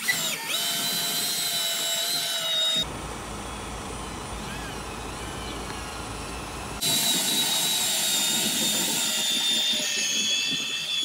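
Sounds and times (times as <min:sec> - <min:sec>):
cordless drill driving winch: 0:00.0 - 0:02.9, 0:04.4 - 0:11.0.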